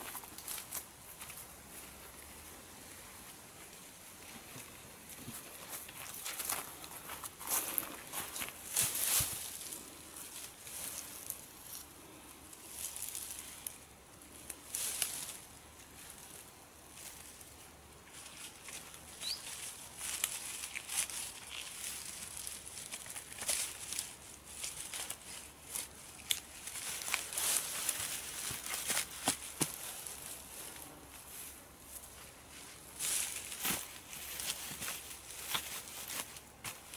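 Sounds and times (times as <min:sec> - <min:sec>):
dry grass and branches rustling: 0:00.0 - 0:36.9.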